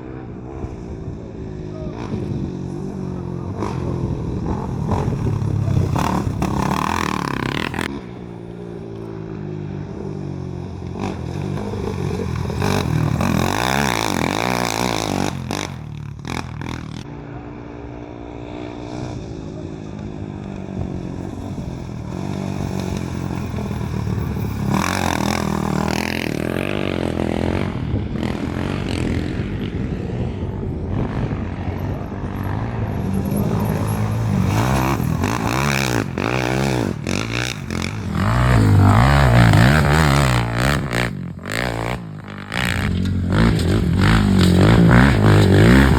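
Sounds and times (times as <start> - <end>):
vehicles passing by: 0.0 - 45.9
racing engines revving: 0.3 - 45.9.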